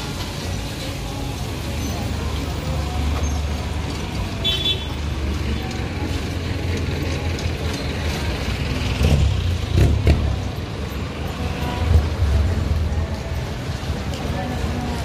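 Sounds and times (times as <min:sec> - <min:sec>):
vehicles passing on road: 0:00.0 - 0:15.0.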